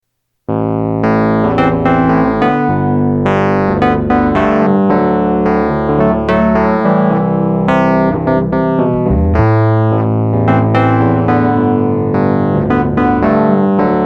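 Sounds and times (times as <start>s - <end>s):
electric piano and synthesizer music: 0.5s - 14.0s.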